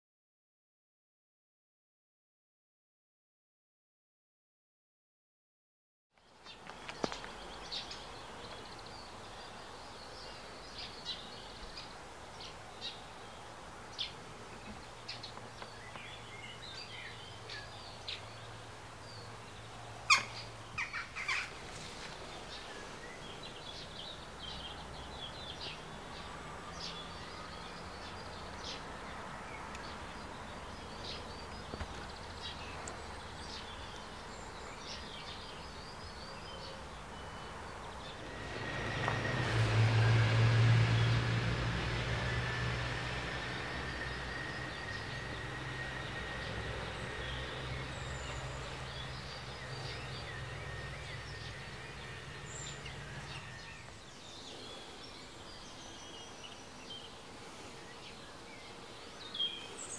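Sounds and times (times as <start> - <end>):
small birds chirping and singing: 6.2 - 59.9.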